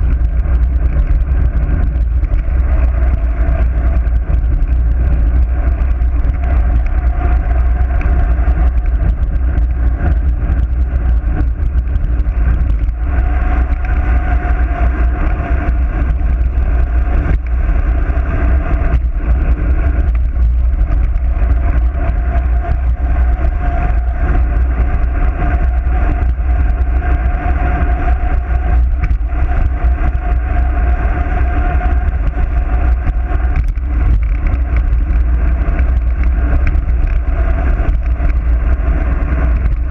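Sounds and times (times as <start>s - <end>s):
wavering hum: 0.0s - 39.9s
wind buffeting camera: 0.0s - 39.9s.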